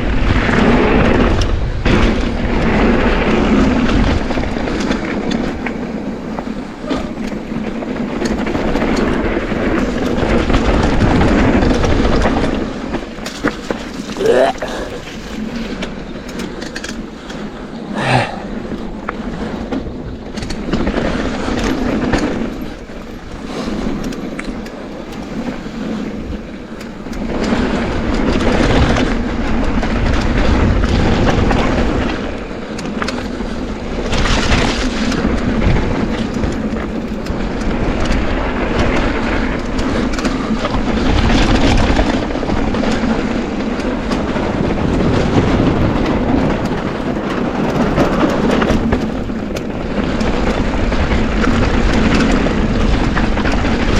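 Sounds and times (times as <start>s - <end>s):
bike rattling over bumps: 0.0s - 53.9s.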